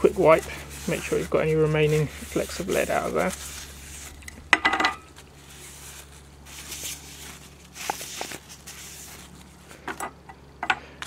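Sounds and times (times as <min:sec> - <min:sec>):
paper towel rubbing in tin: 0:00.0 - 0:04.4, 0:05.0 - 0:09.6.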